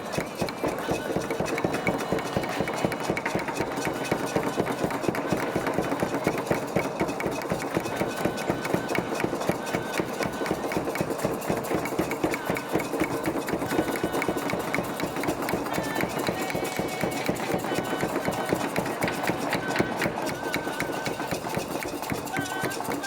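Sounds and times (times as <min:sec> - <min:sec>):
fast percussive beating: 0:00.0 - 0:23.0.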